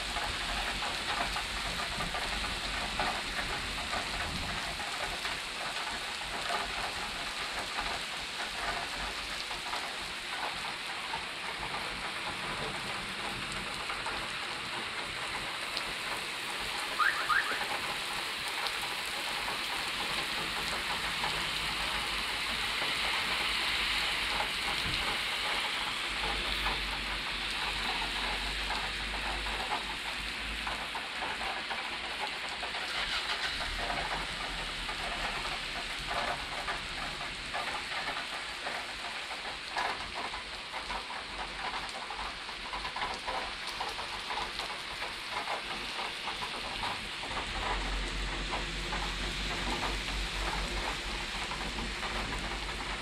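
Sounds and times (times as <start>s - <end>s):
raindrops tapping: 0.0s - 53.0s
steady rain falling: 0.0s - 53.0s.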